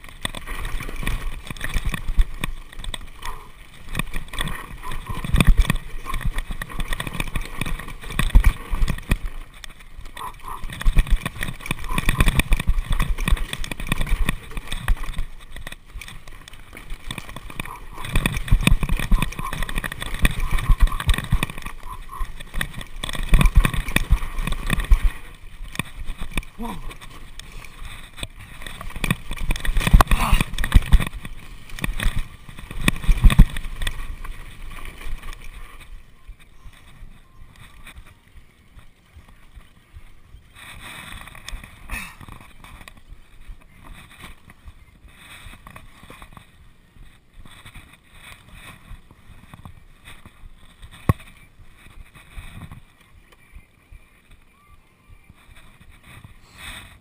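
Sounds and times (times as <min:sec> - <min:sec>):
bike rattling over bumps: 0:00.0 - 0:54.5, 0:55.1 - 0:57.0
bike tyres on dirt: 0:00.0 - 0:57.0.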